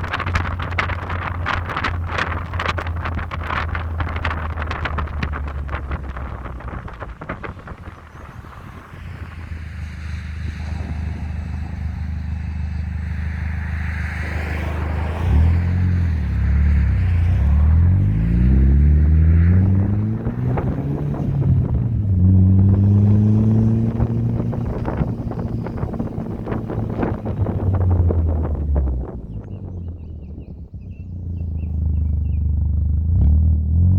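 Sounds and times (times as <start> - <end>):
wind buffeting microphone: 0.0 - 33.2
car engine accelerating: 0.0 - 33.9.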